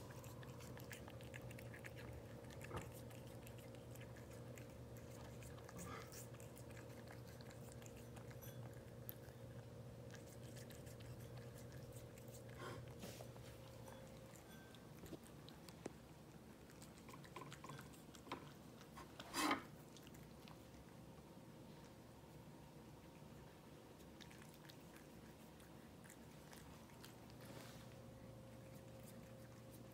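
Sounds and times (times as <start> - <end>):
cats chewing and licking: 0.0 - 29.9
faint steady hum: 0.0 - 29.9.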